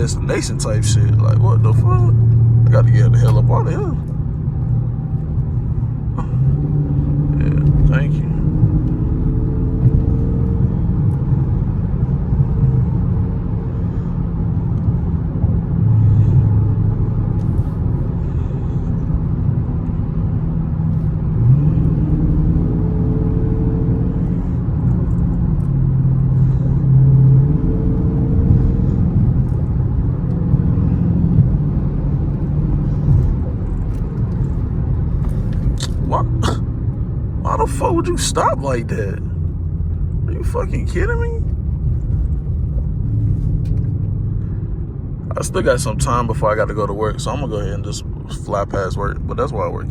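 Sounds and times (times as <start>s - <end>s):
car engine rumble: 0.0s - 49.9s.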